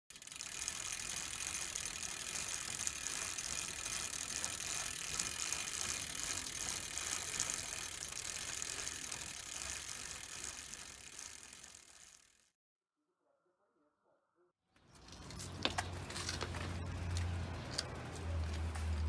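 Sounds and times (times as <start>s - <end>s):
bicycle freewheel hub ratcheting: 0.1s - 12.5s, 14.9s - 19.0s.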